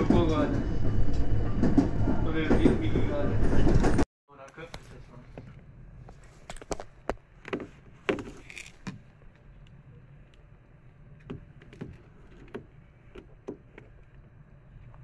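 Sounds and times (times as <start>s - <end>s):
train carriage hum: 0.0s - 15.0s.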